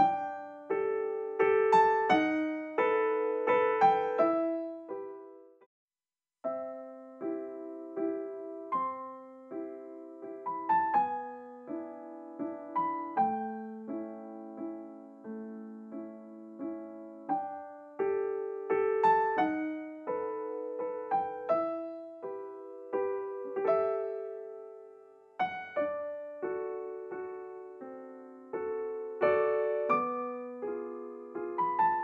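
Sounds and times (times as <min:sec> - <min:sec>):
slow solo piano melody: 0:00.0 - 0:05.7, 0:06.4 - 0:32.0.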